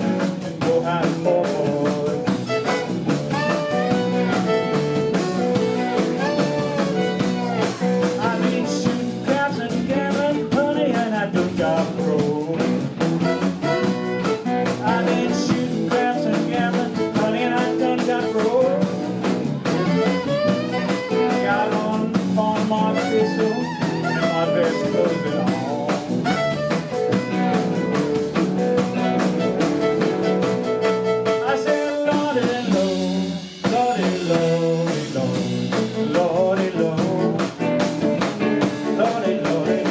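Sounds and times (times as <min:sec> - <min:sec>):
blues band playing: 0:00.0 - 0:39.9.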